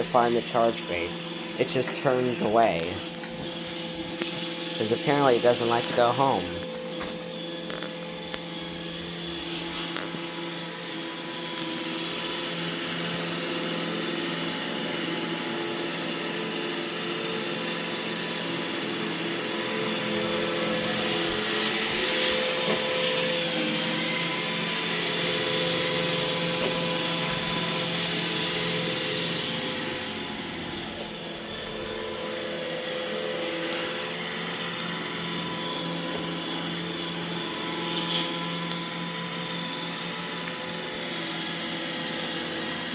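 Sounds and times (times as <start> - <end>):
robot vacuum running: 0.0 - 42.9.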